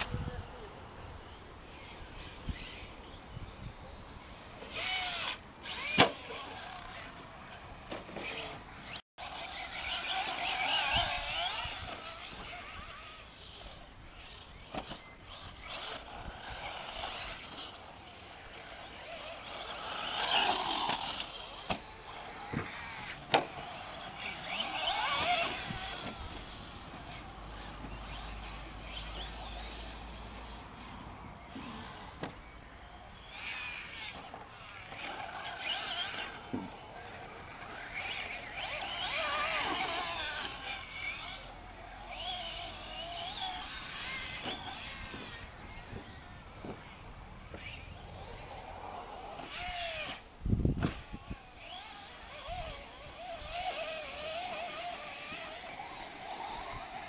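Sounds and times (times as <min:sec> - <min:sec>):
toy truck motor whining: 0:04.4 - 0:32.2, 0:32.8 - 0:57.0.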